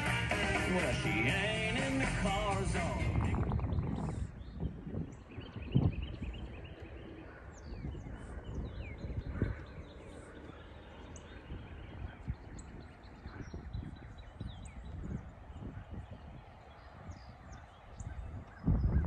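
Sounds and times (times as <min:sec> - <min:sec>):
small birds chirping: 0:00.0 - 0:19.0
wind buffeting microphone: 0:00.7 - 0:19.0.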